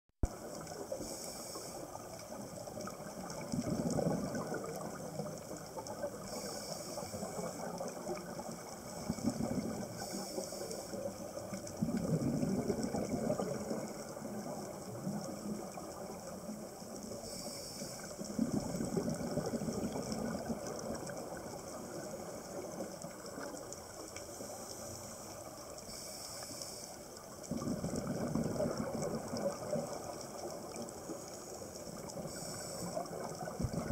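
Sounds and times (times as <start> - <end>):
regulator hiss on inhale: 0.3 - 2.9, 4.0 - 11.8, 13.3 - 20.1, 21.5 - 28.0, 29.7 - 33.5
exhaled bubbles rumbling: 2.3 - 10.4, 11.0 - 24.8, 27.2 - 33.9.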